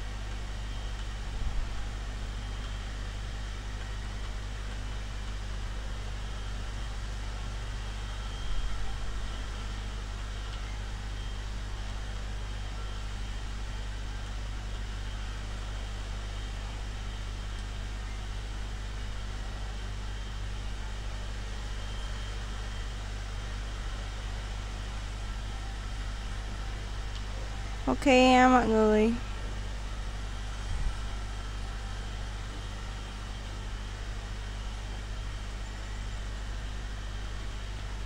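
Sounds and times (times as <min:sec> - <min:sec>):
low hum: 0:00.0 - 0:38.0.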